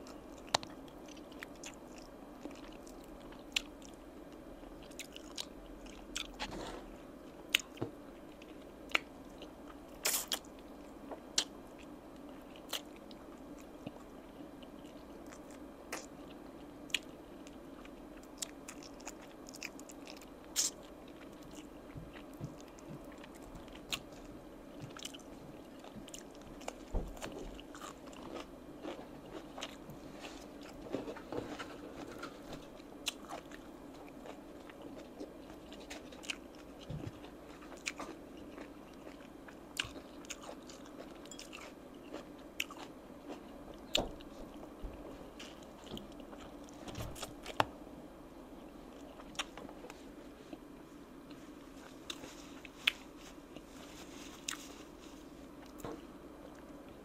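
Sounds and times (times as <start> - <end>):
biting chewing and crunching: 0.0 - 47.8
steady low hum: 0.0 - 57.0.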